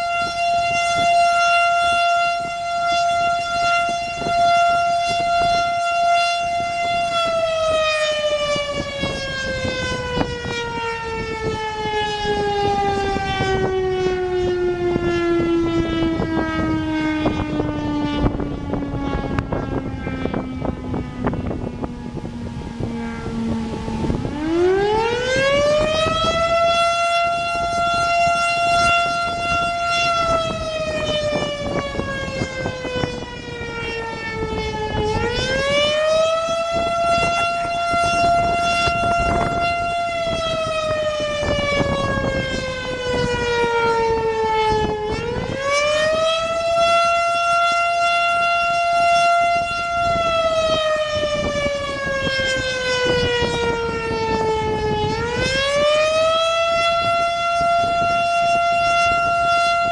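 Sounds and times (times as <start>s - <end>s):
warning siren winding up and down: 0.0s - 59.9s.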